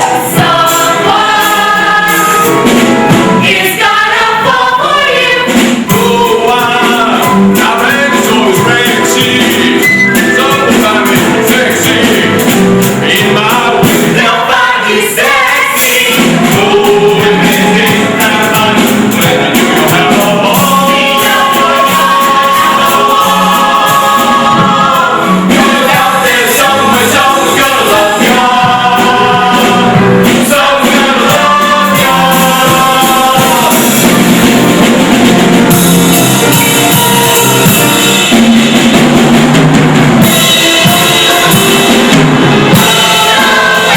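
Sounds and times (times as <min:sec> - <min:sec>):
chorus singing: 0:00.0 - 0:43.9
instrumental accompaniment: 0:00.0 - 0:43.9.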